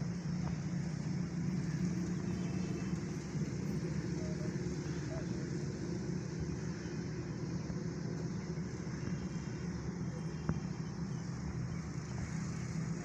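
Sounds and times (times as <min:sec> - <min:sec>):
heating equipment rumbling: 0:00.0 - 0:13.0.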